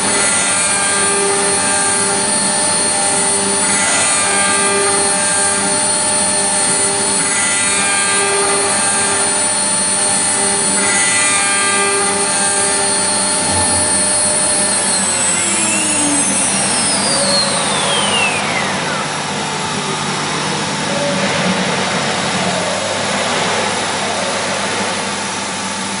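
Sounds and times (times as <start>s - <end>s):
pulsing note: 0.0s - 24.3s
high whine falling in pitch: 0.0s - 26.0s
milling machine motor whine: 0.0s - 26.0s.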